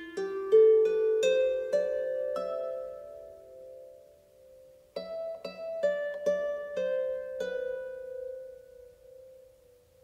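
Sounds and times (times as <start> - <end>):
harp plucked notes: 0.0 - 10.0.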